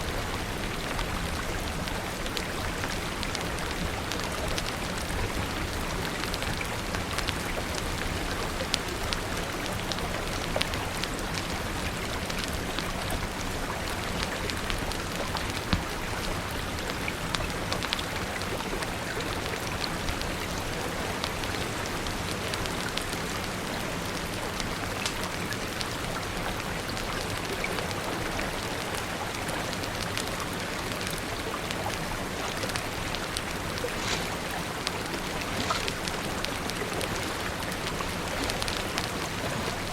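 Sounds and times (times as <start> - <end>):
rain falling and spattering: 0.0 - 39.9
sharp drip ticks: 0.1 - 39.9.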